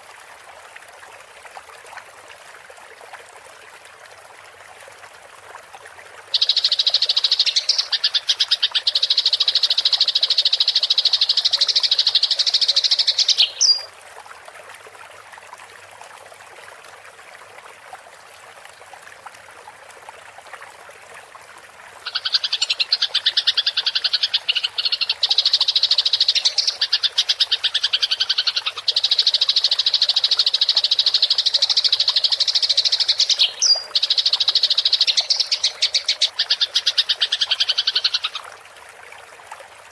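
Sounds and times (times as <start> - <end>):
faint trickle of water: 0.0 - 39.9.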